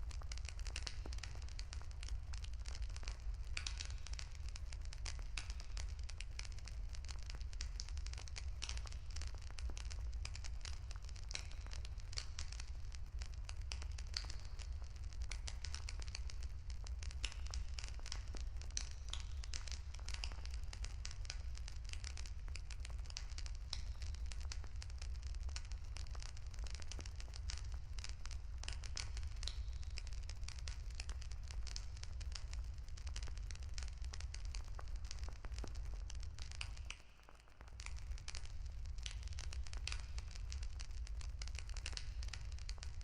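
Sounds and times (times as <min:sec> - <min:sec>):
wood fire crackling and popping: 0:00.0 - 0:43.0.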